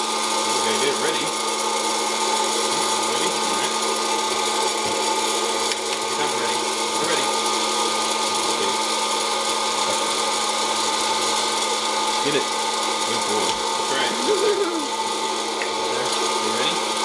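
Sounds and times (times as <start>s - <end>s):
popcorn popper motor whirring: 0.0s - 17.0s.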